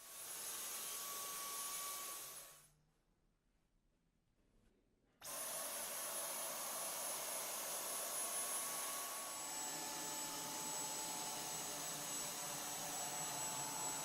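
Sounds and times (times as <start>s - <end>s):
vacuum cleaner running with whine: 0.0s - 2.6s, 5.2s - 14.0s.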